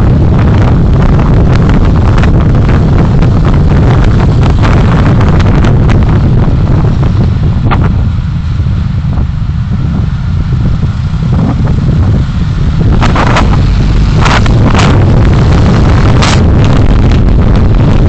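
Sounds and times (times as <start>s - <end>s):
vehicle low rumble: 0.0s - 18.0s
wind buffeting: 0.0s - 18.0s.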